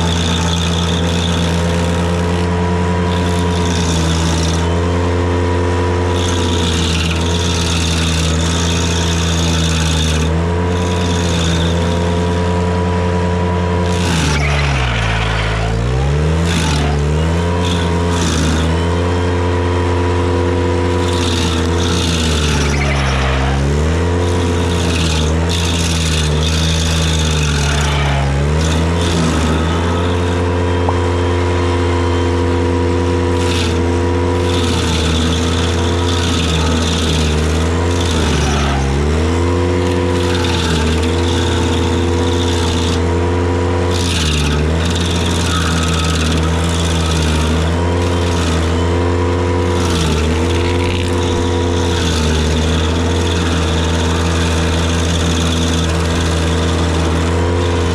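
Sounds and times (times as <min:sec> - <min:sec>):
stump grinder grinding: 0:00.0 - 0:57.9
tractor engine at high throttle: 0:00.0 - 0:57.9.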